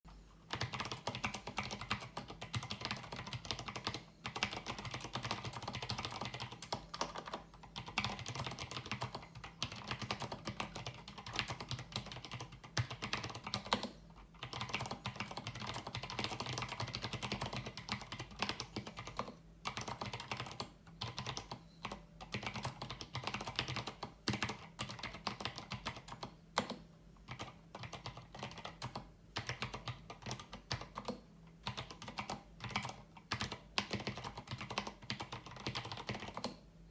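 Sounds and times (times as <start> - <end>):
fast typing on mechanical keyboard: 0.4 - 36.6.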